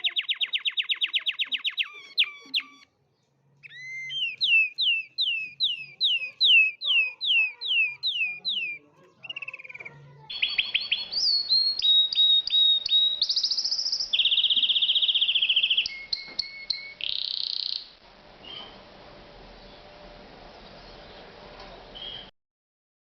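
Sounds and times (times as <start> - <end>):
canary singing: 0.0 - 18.8, 22.0 - 22.3.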